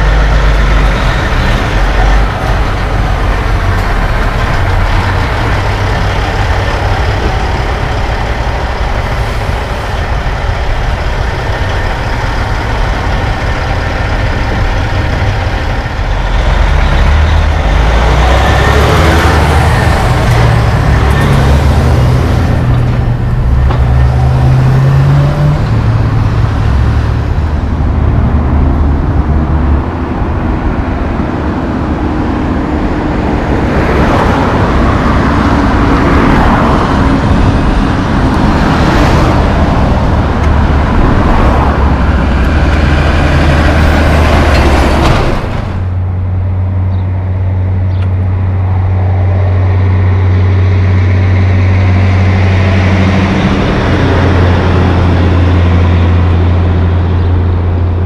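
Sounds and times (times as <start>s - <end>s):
truck engine drone: 0.0s - 58.0s
vehicles passing: 0.0s - 58.0s.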